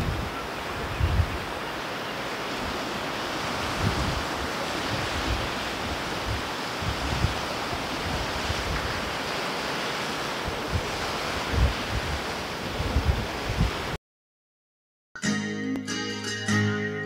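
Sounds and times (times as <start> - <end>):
ocean surf on rocky shore: 0.0 - 14.0
wind buffeting microphone: 0.0 - 14.0.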